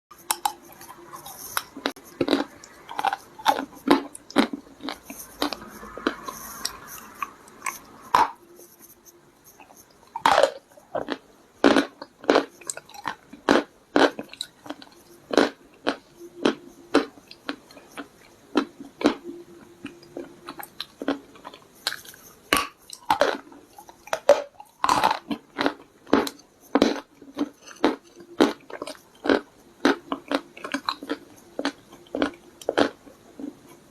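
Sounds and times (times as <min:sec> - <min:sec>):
chewing clay with sharp crunches: 0:00.2 - 0:08.8, 0:09.4 - 0:33.8.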